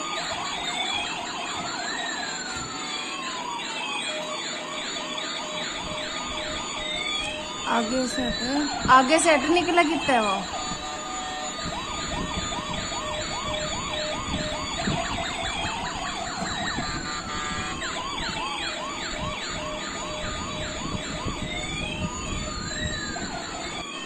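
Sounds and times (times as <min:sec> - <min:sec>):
toy police car sirens: 0:00.0 - 0:24.0.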